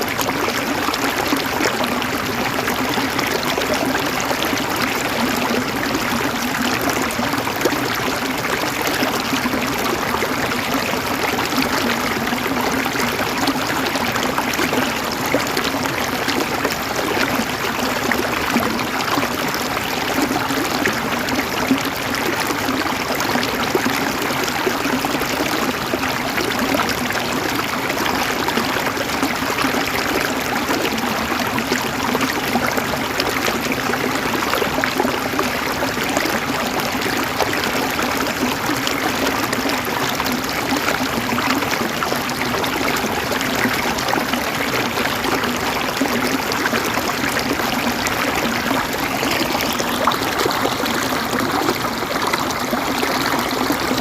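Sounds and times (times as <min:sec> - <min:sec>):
river water gurgling over rocks: 0:00.0 - 0:54.0.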